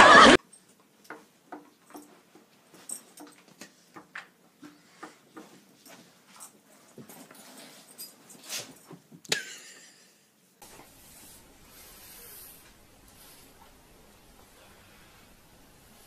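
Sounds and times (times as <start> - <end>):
faint background hiss: 0.4 - 16.0.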